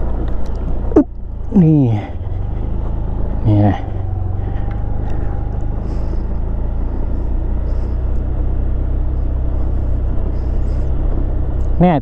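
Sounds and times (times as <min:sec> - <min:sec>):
scooter engine running under load: 0:00.0 - 0:12.0.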